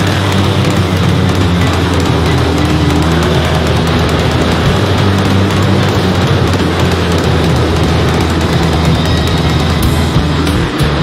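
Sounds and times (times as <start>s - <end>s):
hard rock music: 0.0s - 11.0s
truck engine running: 0.0s - 11.0s.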